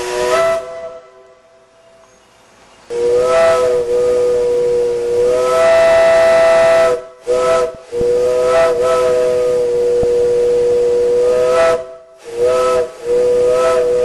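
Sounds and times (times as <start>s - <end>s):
steam whistle chord: 0.0s - 2.1s, 2.9s - 14.0s
steam hissing: 0.0s - 14.0s.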